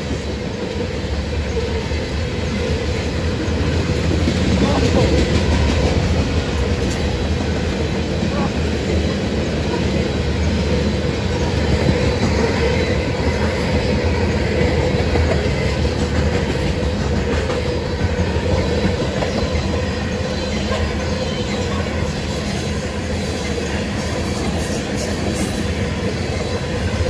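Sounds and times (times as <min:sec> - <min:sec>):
freight train wheels on rails: 0:00.0 - 0:27.0.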